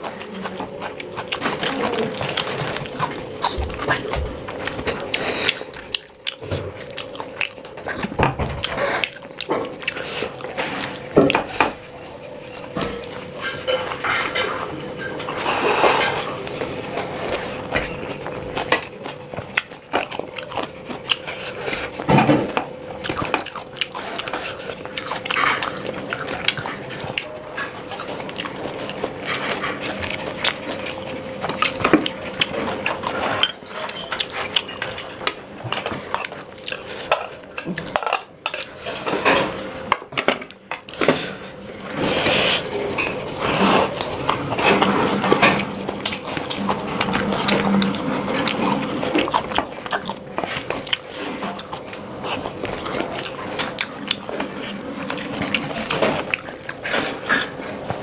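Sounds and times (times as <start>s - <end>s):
chewing and mouth sounds: 0.0s - 58.0s.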